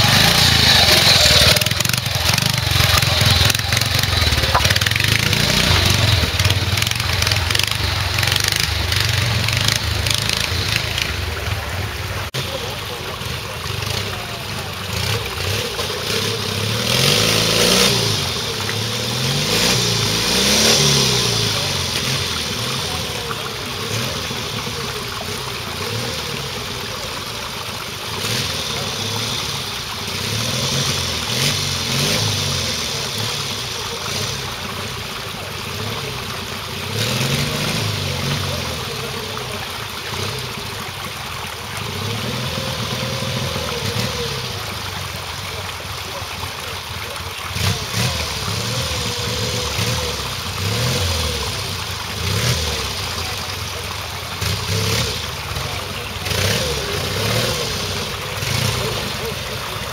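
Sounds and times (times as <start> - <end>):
motorcycle engines idling and revving: 0.0 - 59.9.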